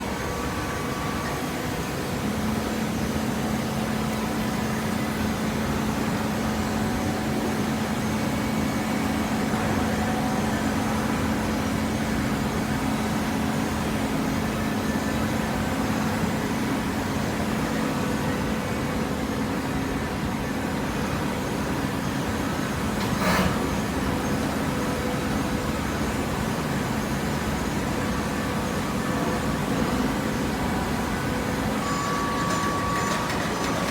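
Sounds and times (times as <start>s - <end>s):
baler machine humming: 0.0s - 33.9s.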